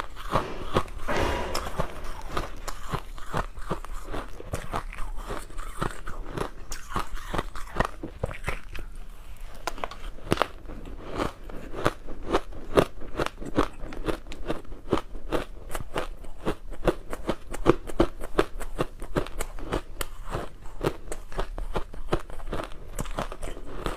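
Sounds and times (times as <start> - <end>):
chewing crunchy ice: 3.5 - 23.9.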